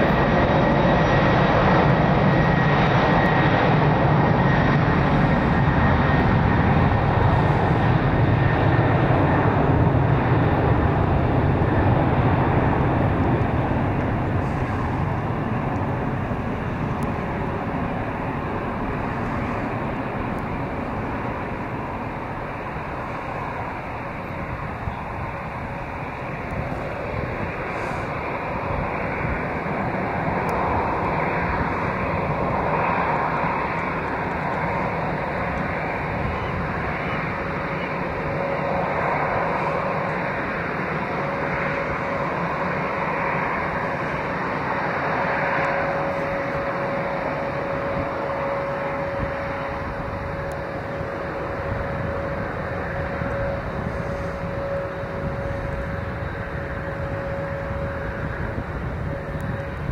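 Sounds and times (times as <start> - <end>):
aircraft engine rumble: 0.0 - 59.9
engine whine: 0.0 - 59.9.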